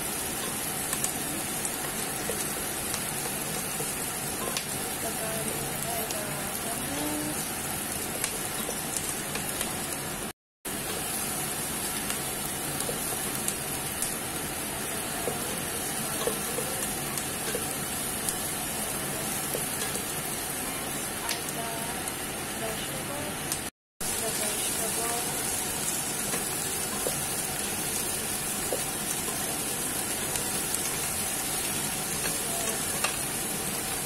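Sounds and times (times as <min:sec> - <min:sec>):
onion sizzling in hot oil: 0:00.0 - 0:34.0.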